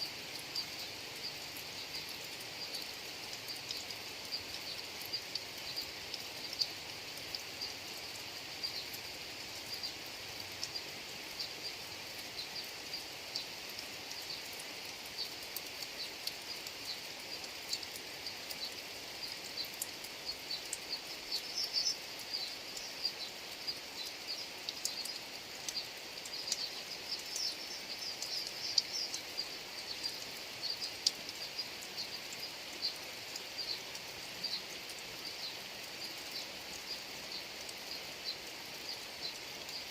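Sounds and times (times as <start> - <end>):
sharp raindrop ticks: 0.0 - 39.9
steady rain: 0.0 - 39.9.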